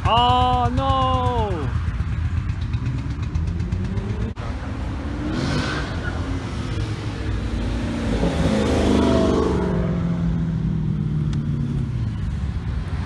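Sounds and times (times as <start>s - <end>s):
car engines accelerating: 0.0s - 13.0s.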